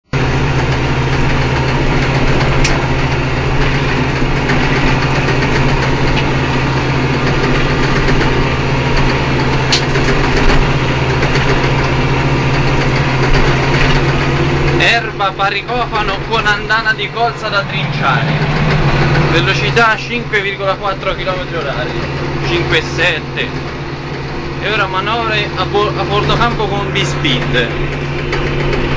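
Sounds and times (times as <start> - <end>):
tractor diesel engine droning: 0.0 - 28.9.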